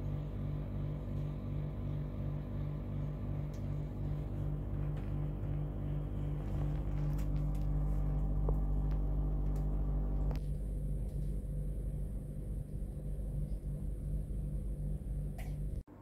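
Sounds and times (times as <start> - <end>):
low rumbling hum: 0.0 - 16.0.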